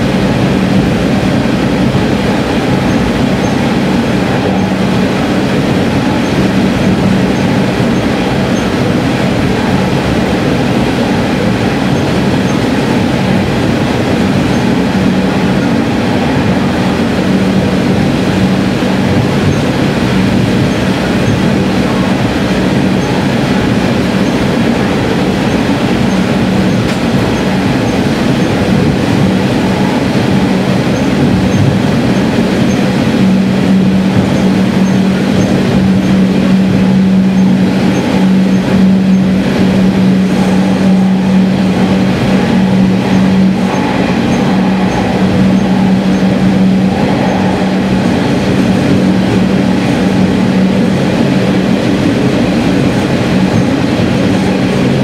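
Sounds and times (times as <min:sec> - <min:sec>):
train engine drone: 0:00.0 - 0:55.0
train wheel and rail noise: 0:00.0 - 0:55.0.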